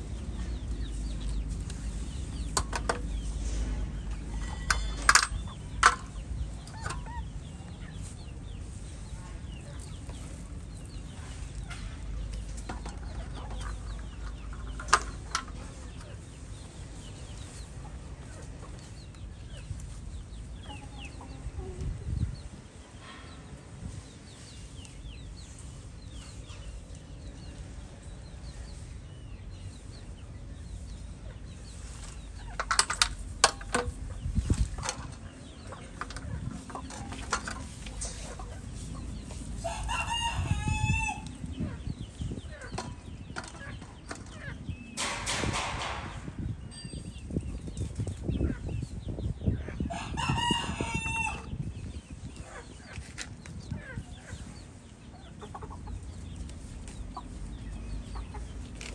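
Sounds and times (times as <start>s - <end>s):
chickens clucking: 0.1s - 22.9s, 23.8s - 58.9s.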